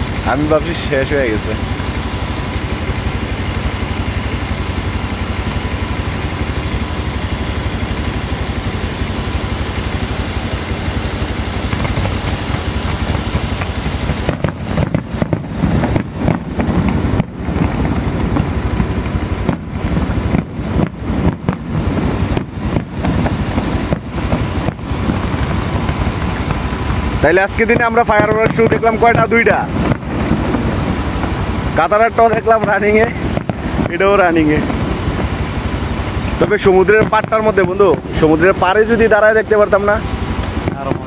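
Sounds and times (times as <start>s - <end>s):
distant fireworks bursting: 0.0s - 41.0s
motorcycle engine idling: 0.0s - 41.0s.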